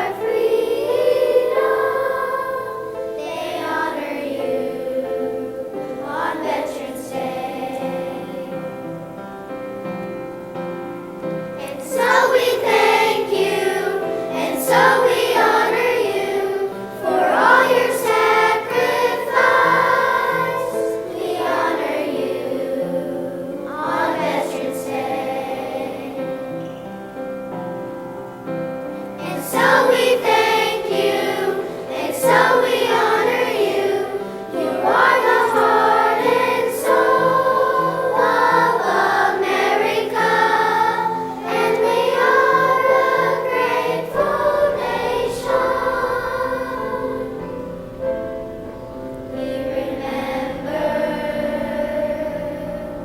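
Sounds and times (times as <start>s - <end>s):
choir singing: 0.0s - 27.6s, 28.4s - 53.0s.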